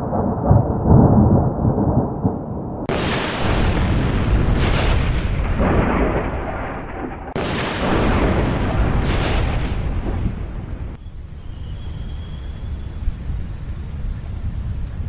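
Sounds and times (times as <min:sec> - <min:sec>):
low thunder rumble: 0:00.0 - 0:15.0
thunder crack: 0:00.0 - 0:15.0.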